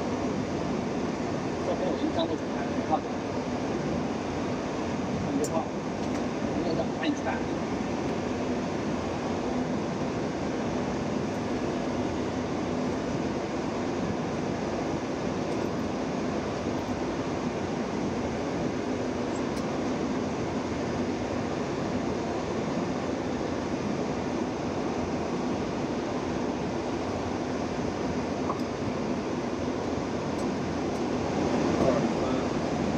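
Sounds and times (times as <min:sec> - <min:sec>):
aircraft auxiliary power humming: 0:00.0 - 0:32.9.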